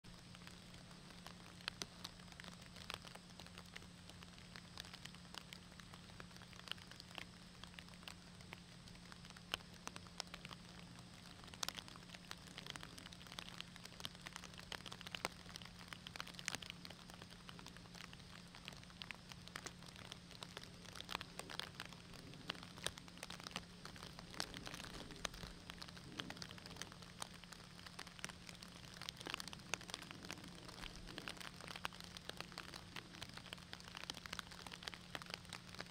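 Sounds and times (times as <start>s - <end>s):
rain pattering: 0.0s - 35.9s
drips and ticks: 0.1s - 35.9s
steady low hum: 0.1s - 35.9s.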